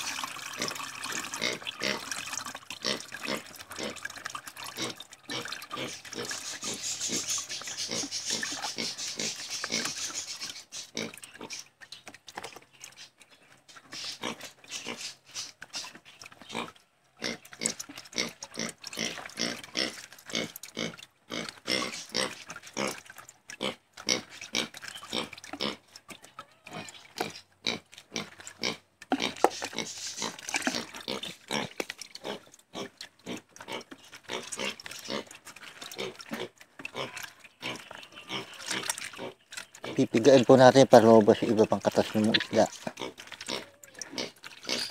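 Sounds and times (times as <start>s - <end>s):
liquid trickling through mesh: 0.0s - 44.9s
wet squelches of kneading mash: 0.0s - 44.9s.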